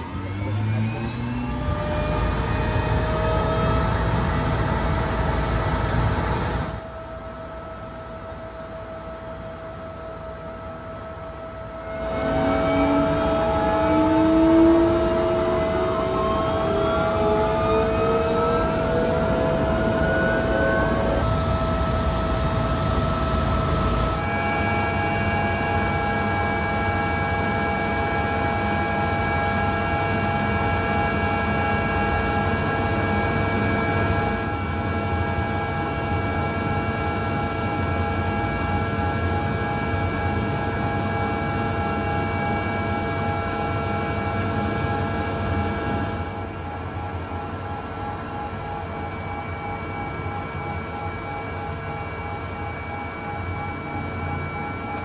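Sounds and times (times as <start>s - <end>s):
helicopter engine whine in cabin: 0.0s - 55.0s.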